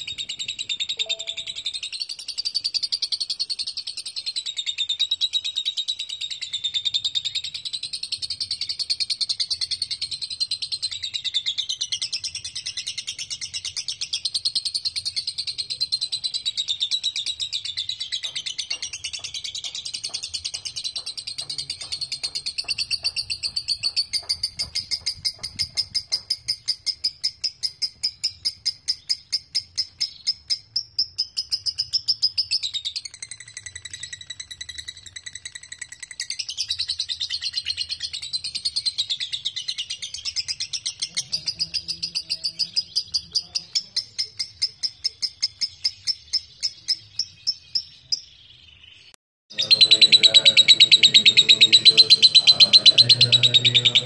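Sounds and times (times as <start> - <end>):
bird chattering trill: 0.0 - 47.9, 49.5 - 54.0.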